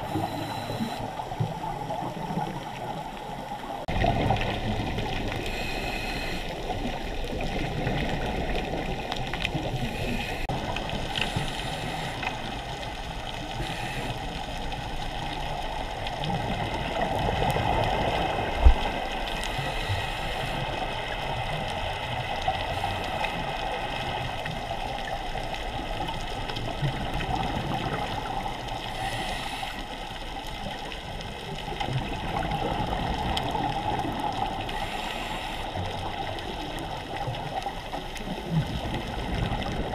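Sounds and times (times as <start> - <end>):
muffled wash of water: 0.0 - 39.9.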